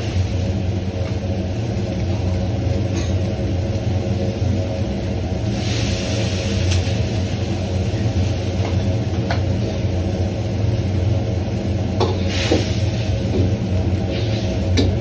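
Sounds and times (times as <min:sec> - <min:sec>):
kitchen equipment hum: 0:00.0 - 0:15.0.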